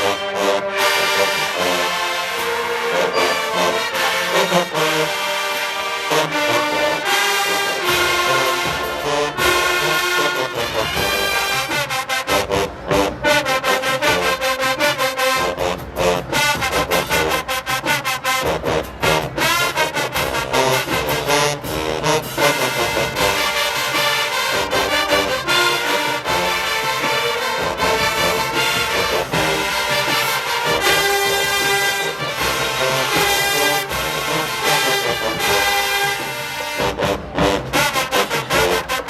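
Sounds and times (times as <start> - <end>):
drumline beat: 0.0 - 39.0
marching band brass: 0.0 - 39.0.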